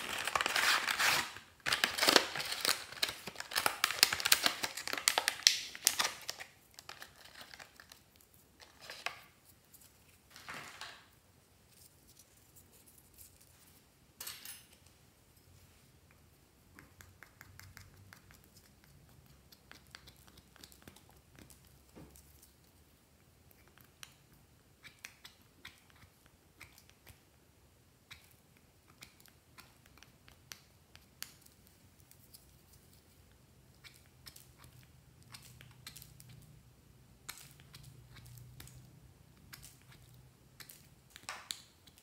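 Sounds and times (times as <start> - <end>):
low room hum: 0.0 - 42.0.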